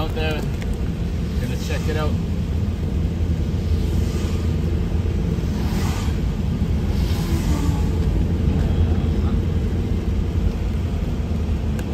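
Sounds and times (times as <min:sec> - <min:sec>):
car interior road rumble: 0:00.0 - 0:11.9.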